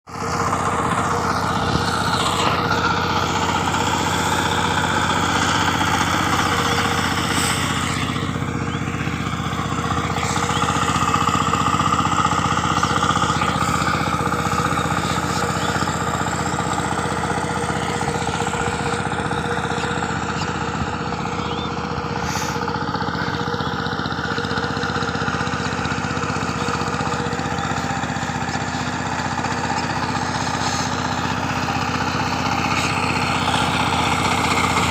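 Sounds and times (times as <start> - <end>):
tiller engine running: 0.1 - 34.9.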